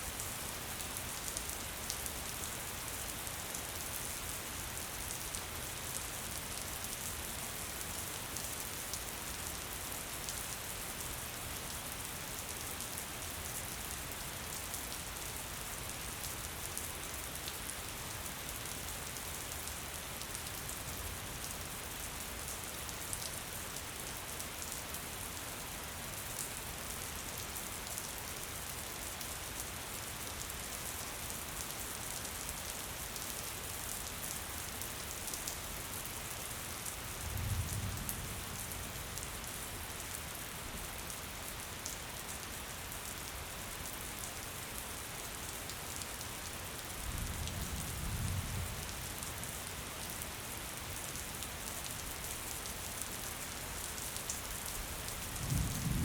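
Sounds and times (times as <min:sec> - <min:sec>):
steady gentle rain: 0:00.0 - 0:56.0.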